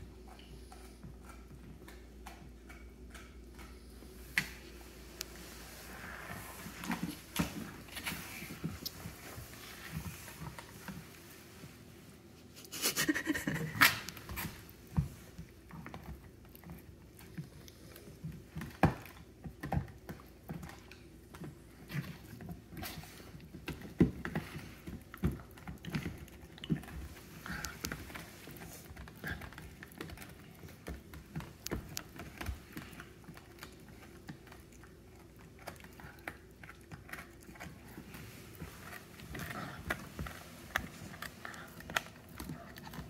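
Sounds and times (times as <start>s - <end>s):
puppy gnawing a toy bone: 0.0s - 11.3s, 13.8s - 43.0s.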